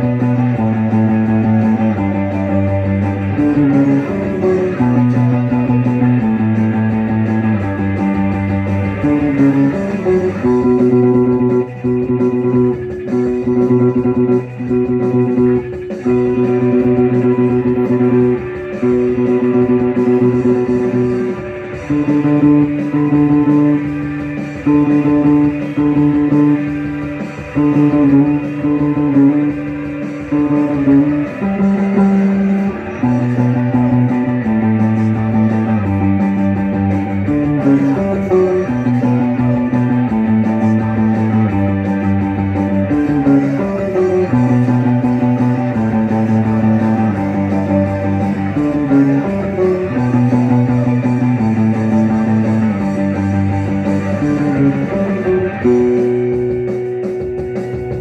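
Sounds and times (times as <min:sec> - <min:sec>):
rock music guitar and bass riff: 0:00.0 - 0:58.0.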